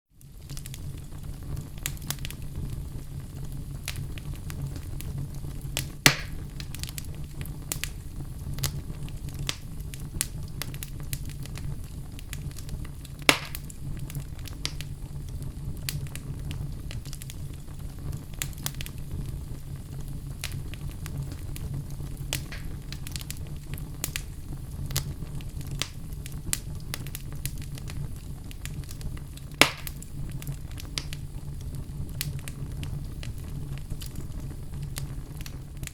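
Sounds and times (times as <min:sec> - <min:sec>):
wood fire crackling: 0:00.1 - 0:35.9
loud fire pops: 0:00.2 - 0:35.9.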